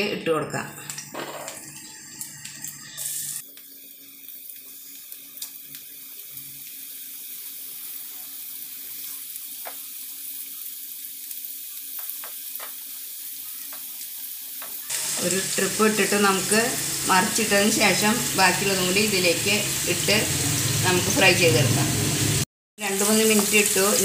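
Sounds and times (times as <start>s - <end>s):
fish sizzling in hot oil: 0.7s - 24.0s.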